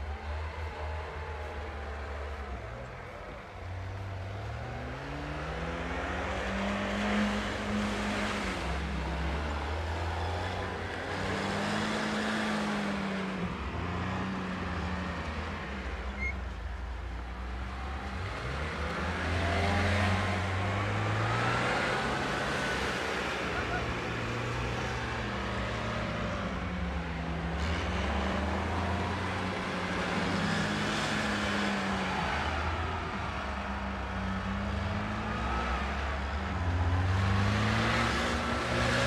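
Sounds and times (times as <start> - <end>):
off-road engine revving: 0.0 - 16.3, 17.3 - 39.0.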